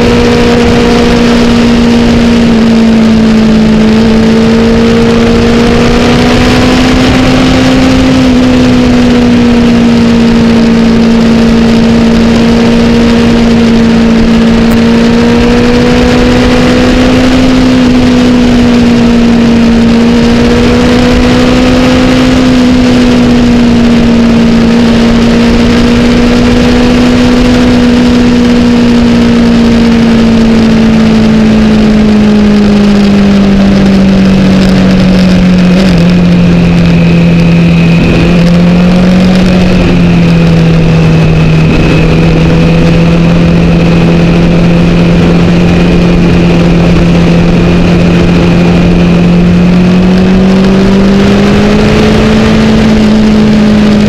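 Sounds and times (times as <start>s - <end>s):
motorcycle engine running: 0.0s - 54.0s
wind rushing over camera: 0.0s - 54.0s.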